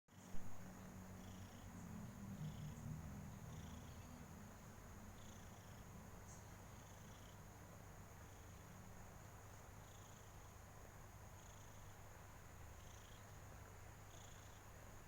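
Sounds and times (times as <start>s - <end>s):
cat purring: 0.3s - 15.0s.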